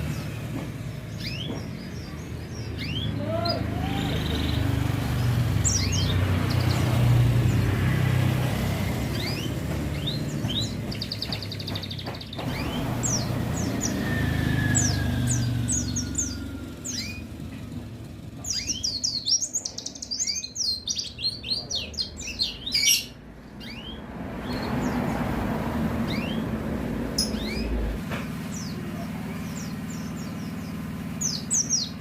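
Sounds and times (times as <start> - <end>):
bird chirp: 0.0 - 32.0
bird singing rapid trill: 0.0 - 32.0
low rumble of road traffic: 0.0 - 32.0.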